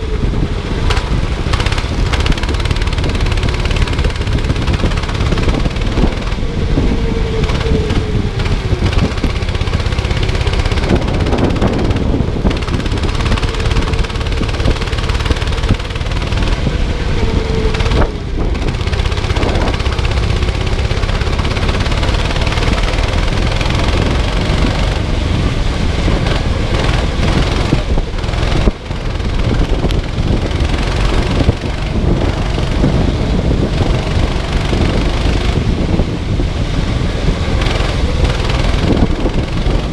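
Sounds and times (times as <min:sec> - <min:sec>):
kart engine running hard: 0:00.0 - 0:39.9
wind buffeting on microphone: 0:00.0 - 0:39.9.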